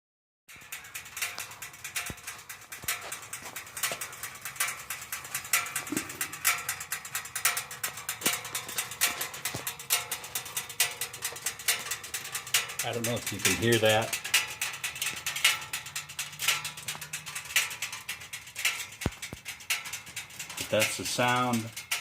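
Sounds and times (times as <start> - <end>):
cooling exhaust pipes ticking: 0.5 - 22.0.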